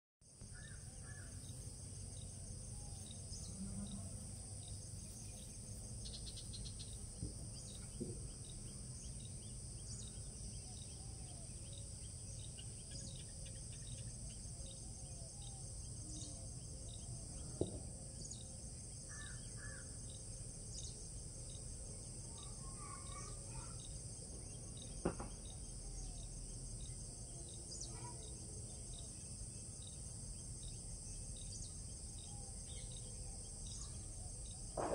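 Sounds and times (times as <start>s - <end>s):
insects droning: 0.3s - 34.9s.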